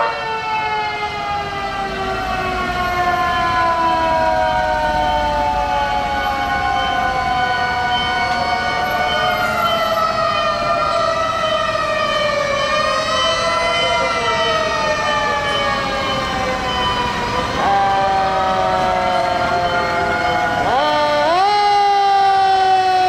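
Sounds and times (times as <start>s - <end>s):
fire engine sirens wailing: 0.0s - 23.0s
loud high-pitched siren: 0.0s - 23.0s.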